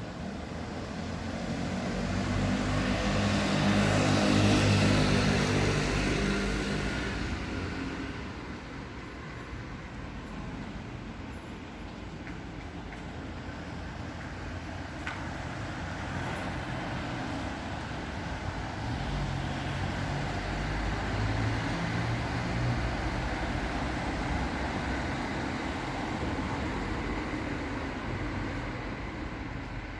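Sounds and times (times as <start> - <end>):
passing vehicles hum: 0.0 - 29.9.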